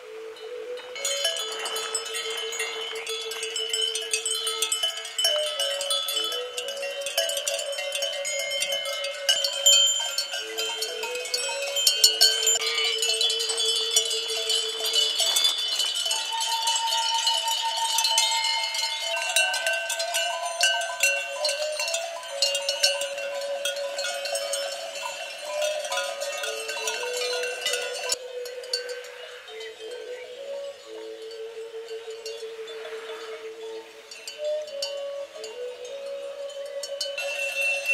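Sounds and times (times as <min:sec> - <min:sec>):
sheep bells clanking: 0:00.0 - 0:30.6, 0:34.0 - 0:37.9.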